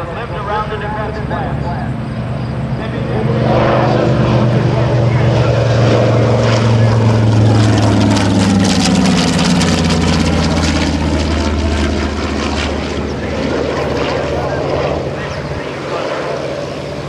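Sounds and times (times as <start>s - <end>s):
radial engine and propeller fly-by: 0.0s - 17.0s.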